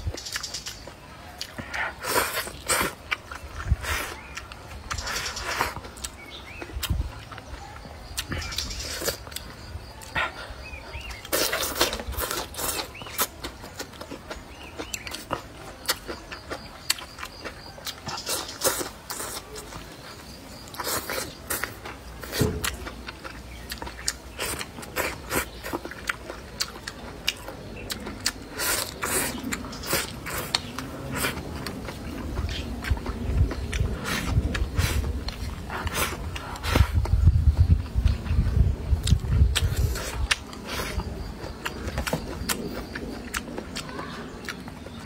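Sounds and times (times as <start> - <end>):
person chewing and crunching food: 0.0 - 45.0.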